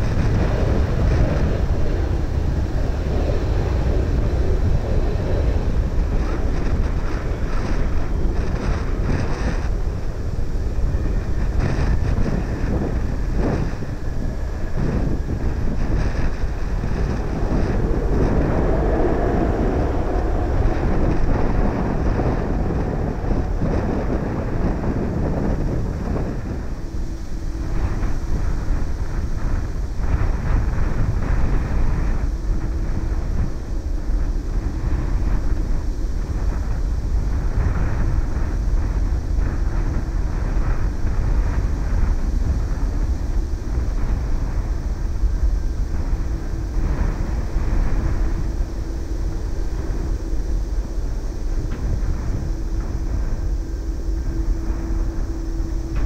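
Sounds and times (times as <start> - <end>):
distant jet engines roaring: 0.0 - 56.0
wind rumbling on the microphone: 0.0 - 56.0.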